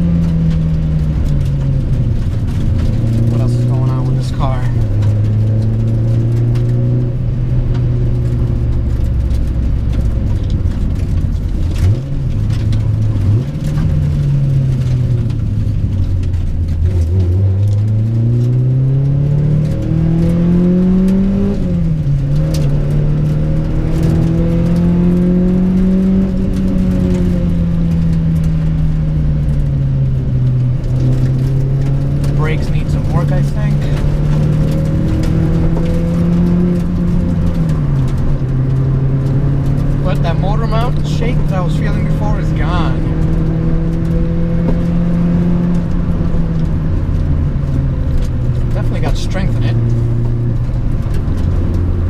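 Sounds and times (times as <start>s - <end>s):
car engine revving while driving: 0.0s - 52.0s.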